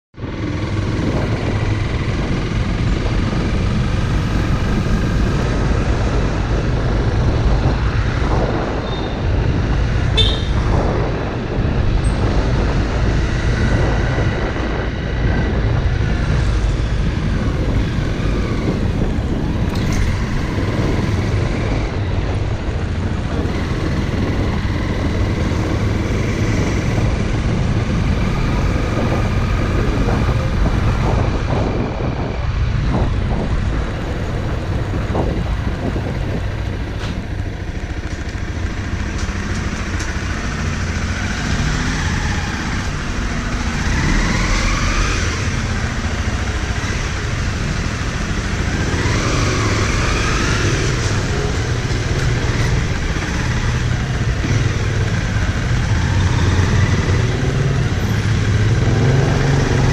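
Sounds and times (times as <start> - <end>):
dirt bike engine rumbling: 0.2 - 59.9.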